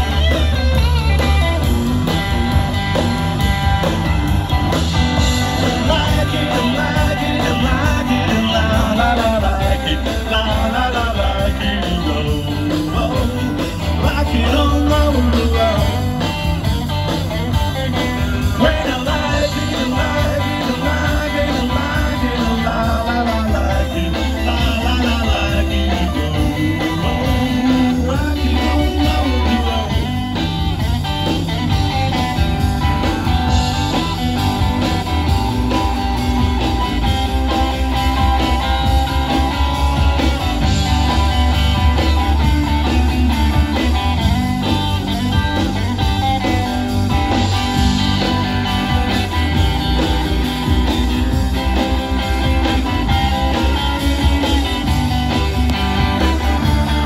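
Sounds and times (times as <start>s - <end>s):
electric guitar: 0.0s - 57.0s
keyboard: 0.0s - 57.0s
steady drum beat: 0.0s - 57.0s.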